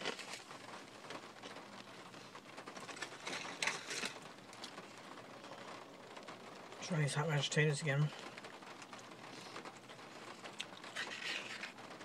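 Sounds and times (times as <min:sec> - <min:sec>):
crackles of eating fried food: 0:00.0 - 0:12.0
food packaging crackling: 0:00.0 - 0:12.0.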